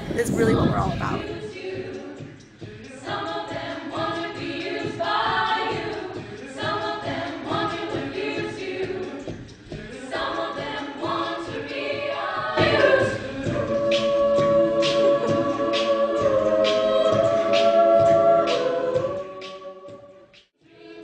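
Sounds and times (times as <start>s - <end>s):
vocal group singing in harmony: 0.1s - 21.0s.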